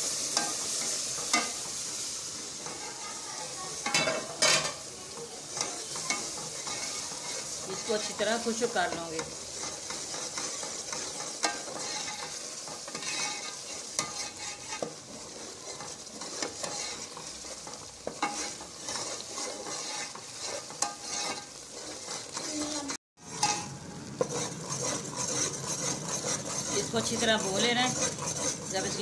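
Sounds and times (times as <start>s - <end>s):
flour sizzling in oil: 0.0s - 29.0s
spoon scraping a metal pot: 3.8s - 4.8s, 5.5s - 29.0s.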